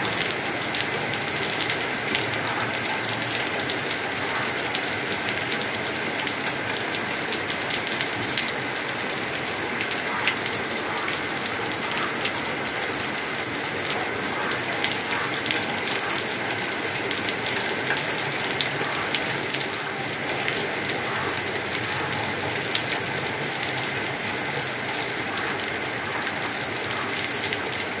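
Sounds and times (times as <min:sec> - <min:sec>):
heavy rain on wet ground: 0:00.0 - 0:28.0.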